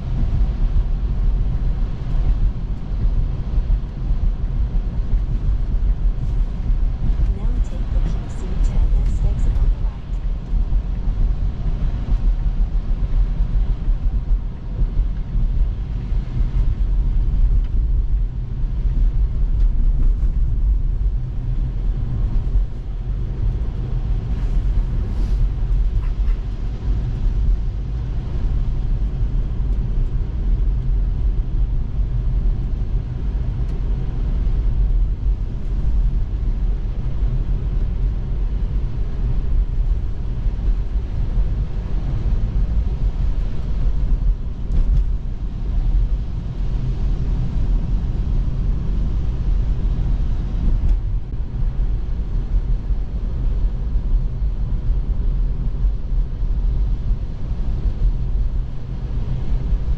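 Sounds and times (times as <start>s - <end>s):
road and tyre rumble in car: 0.0s - 59.9s.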